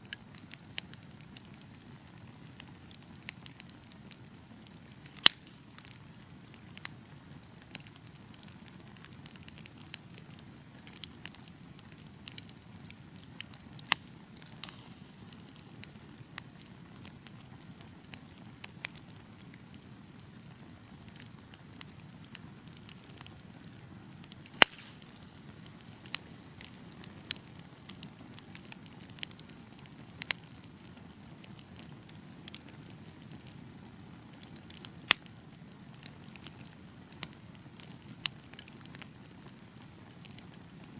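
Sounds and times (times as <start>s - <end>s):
fire crackling and popping: 0.0s - 40.9s
low rumble of flames: 0.1s - 40.9s.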